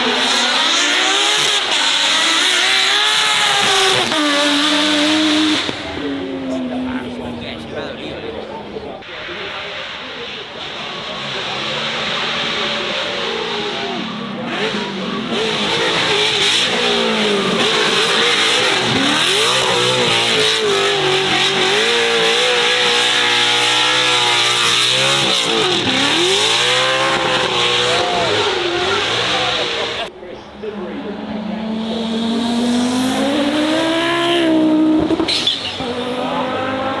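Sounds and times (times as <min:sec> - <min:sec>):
car engine revving hard: 0:00.0 - 0:37.0.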